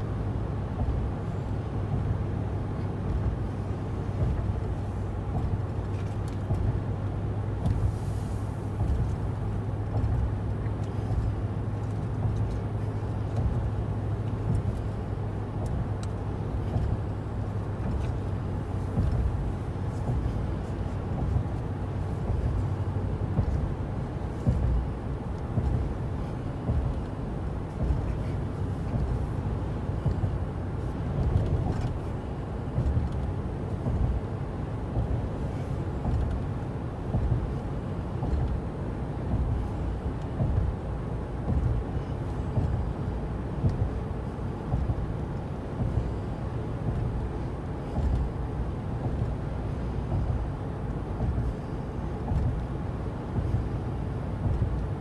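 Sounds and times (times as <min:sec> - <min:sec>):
car road noise from inside cabin: 0:00.0 - 0:55.0.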